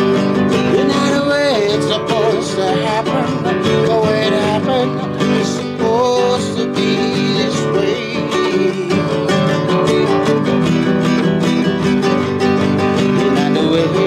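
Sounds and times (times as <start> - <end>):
man singing: 0.0 - 10.5, 12.1 - 14.0
strummed nylon-string guitar: 0.0 - 14.0.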